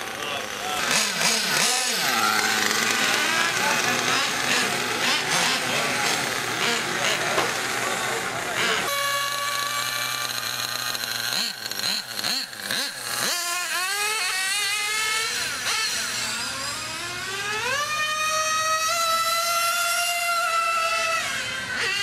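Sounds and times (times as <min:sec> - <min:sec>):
radio-controlled car motor whining: 0:00.0 - 0:22.0.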